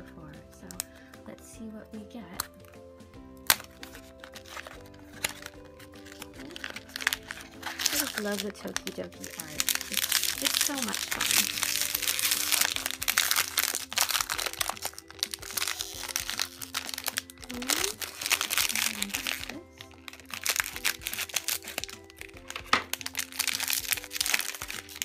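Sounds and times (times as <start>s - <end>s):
light background music: 0.0s - 25.0s
foil pouch crinkling: 3.4s - 25.0s.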